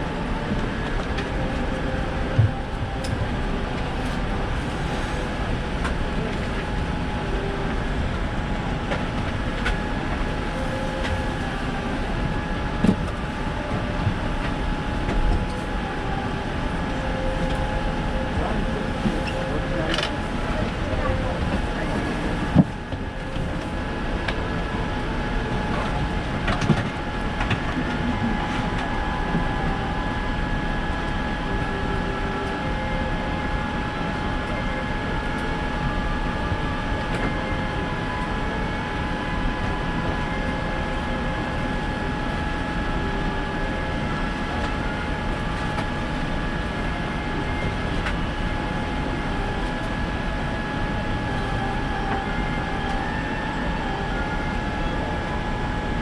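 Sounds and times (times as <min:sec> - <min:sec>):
airliner cabin rushing hum: 0:00.0 - 0:56.0
high whine: 0:00.0 - 0:56.0.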